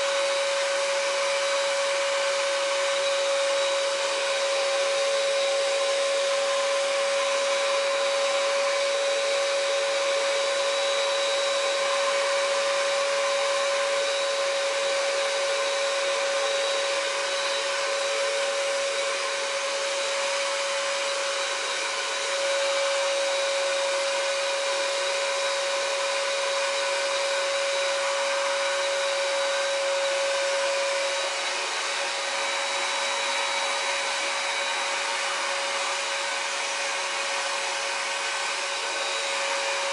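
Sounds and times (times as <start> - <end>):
paint sprayer blower whining: 0.0 - 39.9.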